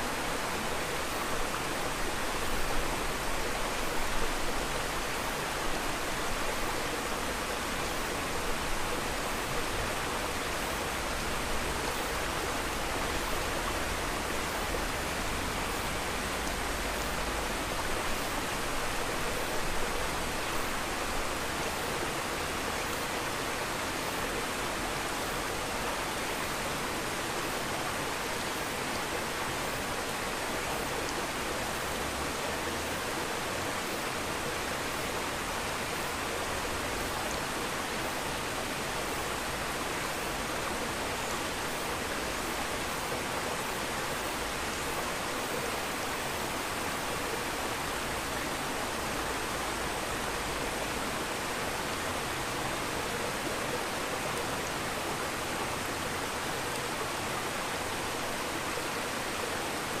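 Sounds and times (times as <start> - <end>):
rushing water hiss: 0.0 - 60.0.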